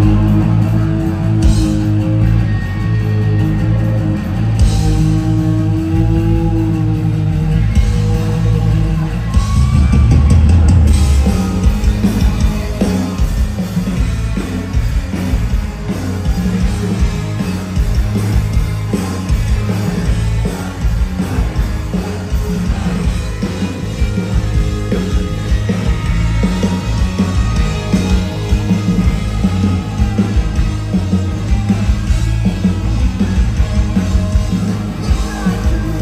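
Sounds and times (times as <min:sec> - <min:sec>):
bass guitar: 0:00.0 - 0:36.0
drum kit: 0:00.0 - 0:36.0
electric guitar: 0:00.0 - 0:36.0.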